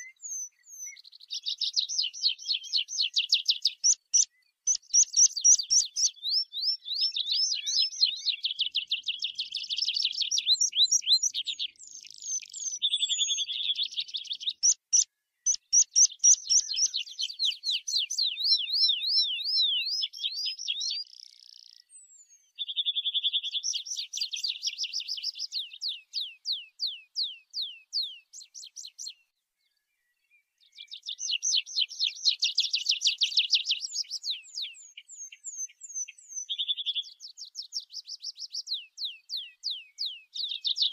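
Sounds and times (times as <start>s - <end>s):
bird singing trills: 0.0s - 40.9s.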